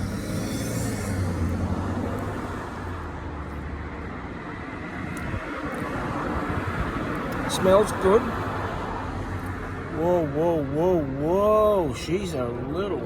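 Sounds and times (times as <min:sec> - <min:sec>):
motor vehicle hum: 0:00.0 - 0:12.0
road noise: 0:00.0 - 0:13.0.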